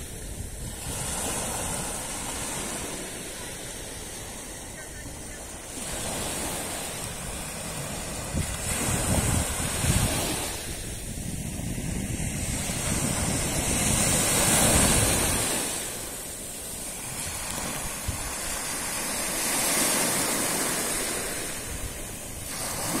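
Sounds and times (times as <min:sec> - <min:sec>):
waves washing up a shore: 0:00.0 - 0:23.0
wind buffeting the microphone: 0:00.0 - 0:23.0.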